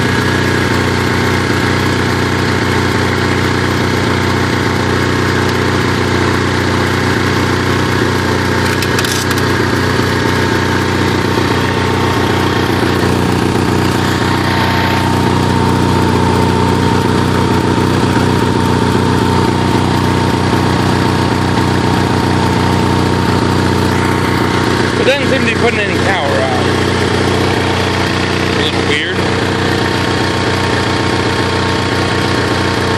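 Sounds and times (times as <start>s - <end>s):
generator engine humming: 0.0s - 32.9s.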